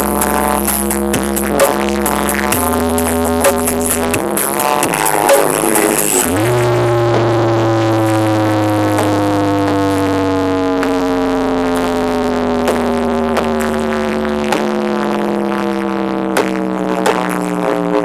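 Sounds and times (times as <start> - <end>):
deep steady bass: 0.0 - 18.0
electronic tone falling in pitch: 0.0 - 18.0.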